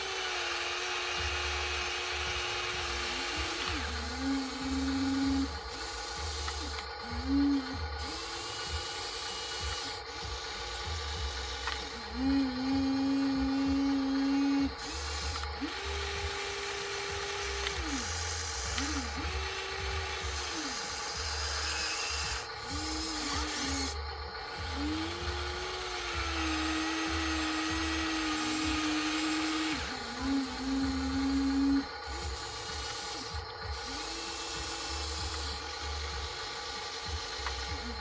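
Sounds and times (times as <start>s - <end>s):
small electric motors whining: 0.0s - 38.0s.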